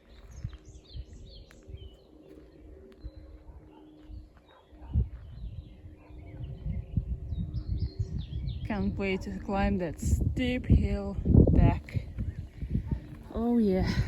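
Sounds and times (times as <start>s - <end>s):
wild birds chirping: 0.0s - 10.0s, 10.9s - 14.0s.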